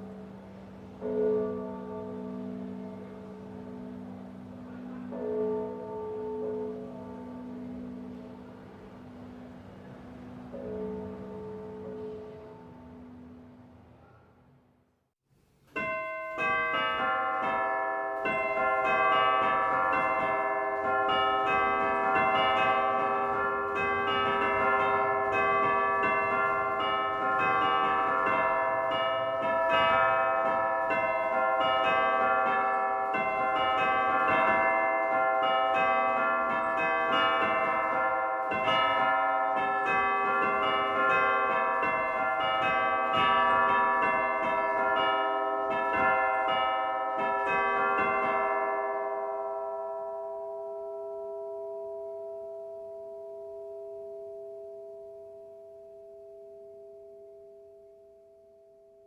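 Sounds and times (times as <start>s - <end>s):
church bells pealing: 0.0s - 14.1s, 15.7s - 58.2s.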